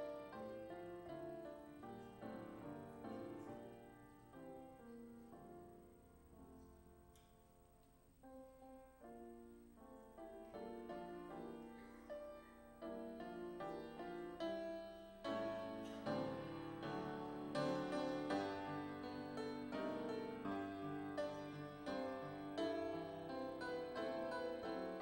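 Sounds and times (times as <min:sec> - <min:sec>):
soft piano music: 0:00.0 - 0:25.0.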